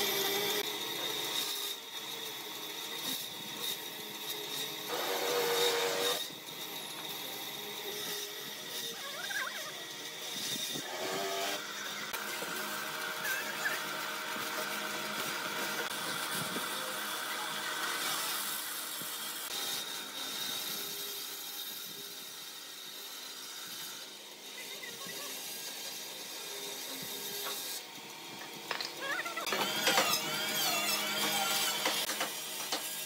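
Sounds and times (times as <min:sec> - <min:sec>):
bandsaw cutting wood: 0:00.0 - 0:33.0.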